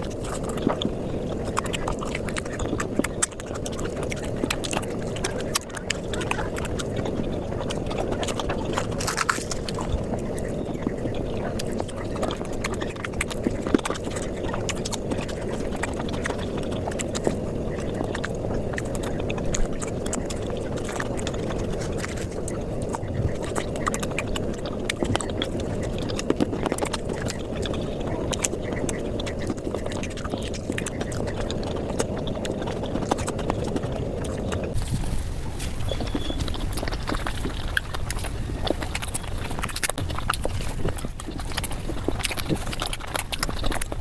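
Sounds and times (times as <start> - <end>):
fast chewing and smacking: 0.0 - 44.0.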